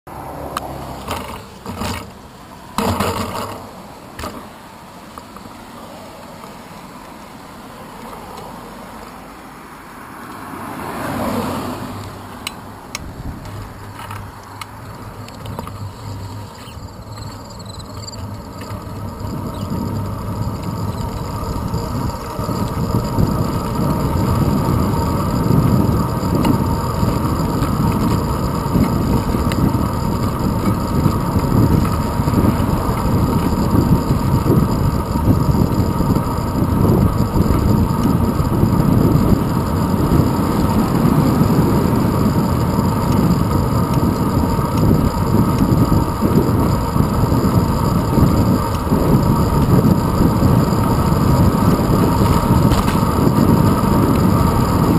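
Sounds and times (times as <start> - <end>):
wind and road noise: 0.0 - 54.9
car passing: 0.1 - 54.9.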